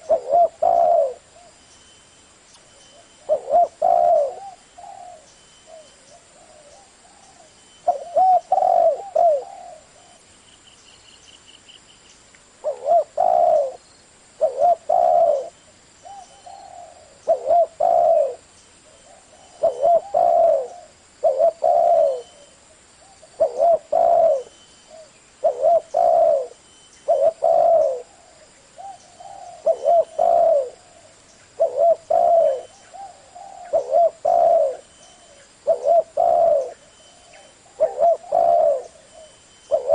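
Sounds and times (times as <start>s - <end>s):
dove cooing: 0.0s - 1.6s, 3.0s - 10.2s, 12.6s - 13.8s, 14.4s - 39.9s.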